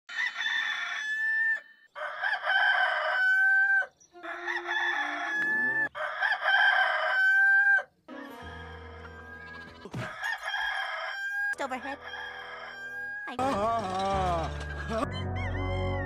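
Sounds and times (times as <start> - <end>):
rooster crowing: 0.1 - 13.3.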